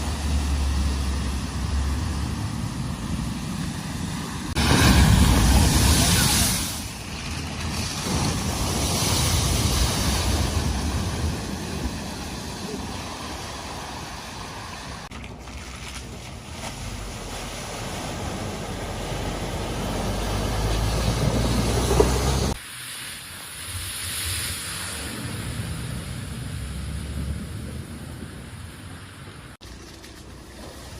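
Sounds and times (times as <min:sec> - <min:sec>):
water rushing and splashing: 0:00.0 - 0:29.6.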